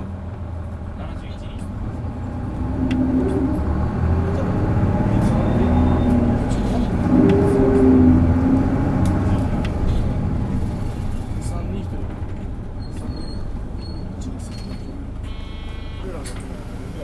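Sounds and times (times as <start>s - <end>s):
bus diesel engine accelerating: 0.0s - 17.0s.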